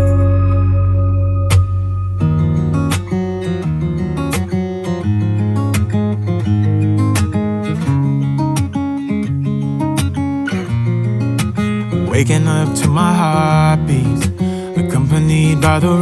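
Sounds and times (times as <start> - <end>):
pop music with acoustic guitar: 0.0 - 16.0.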